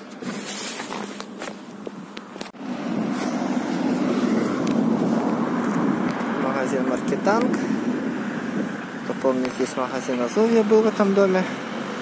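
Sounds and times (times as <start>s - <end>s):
steady street noise: 0.0s - 12.0s.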